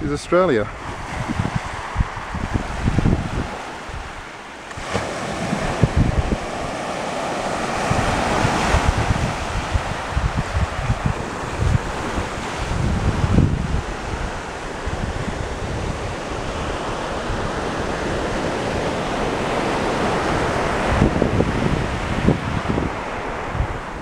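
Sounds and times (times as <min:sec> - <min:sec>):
wind buffeting microphone: 0:00.0 - 0:24.0
waves washing onto pebbles: 0:00.8 - 0:23.4.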